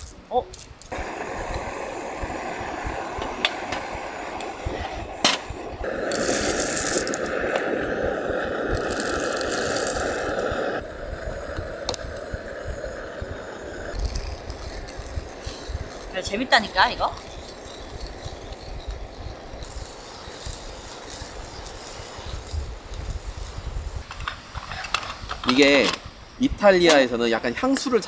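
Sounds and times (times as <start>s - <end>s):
hand coffee grinder grinding: 0.0s - 24.8s.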